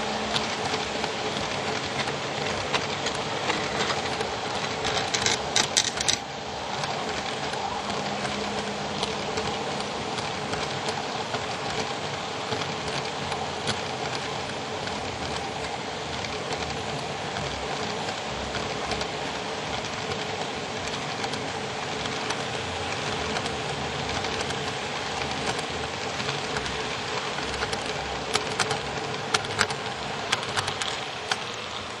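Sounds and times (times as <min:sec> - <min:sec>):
model train cars clattering on rails: 0:00.0 - 0:32.0.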